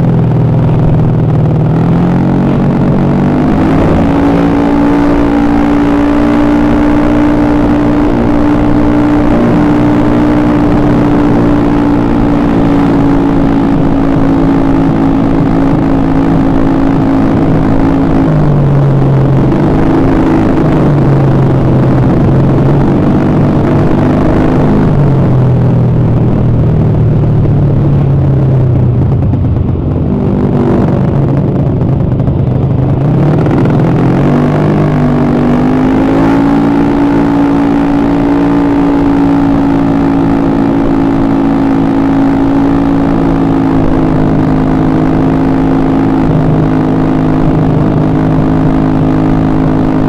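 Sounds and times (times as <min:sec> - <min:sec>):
scooter engine running: 0:00.0 - 0:50.0.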